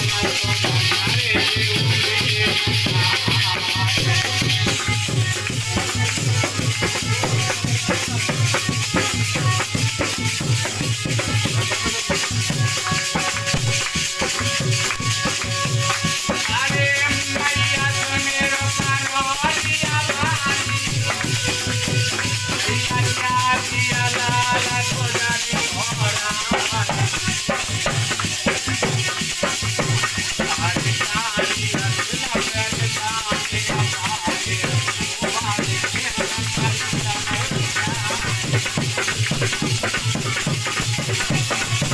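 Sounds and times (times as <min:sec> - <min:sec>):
steady drum beat: 0:00.0 - 0:41.9.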